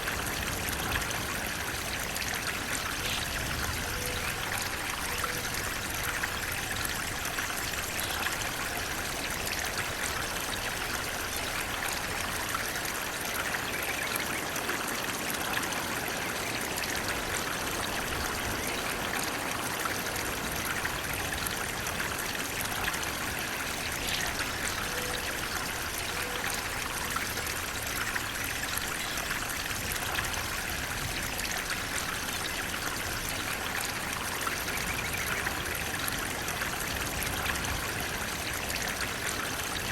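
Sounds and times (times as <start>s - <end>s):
water babbling and trickling: 0.0s - 39.9s.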